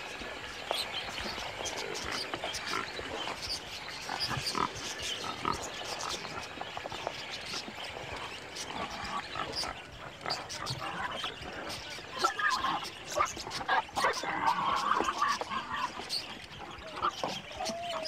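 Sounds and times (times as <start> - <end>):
wild hogs grunting and squealing: 1.7 - 6.9, 8.2 - 18.0.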